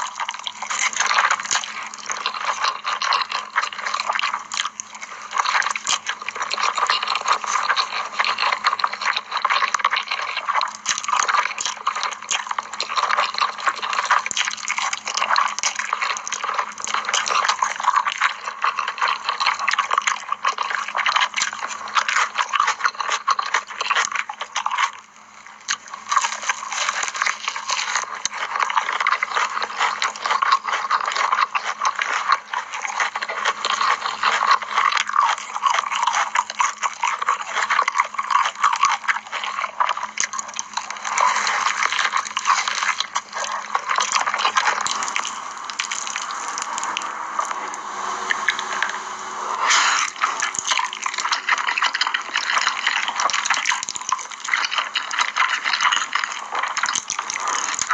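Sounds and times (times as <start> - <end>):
slurping and chewing noodles: 0.0 - 57.9.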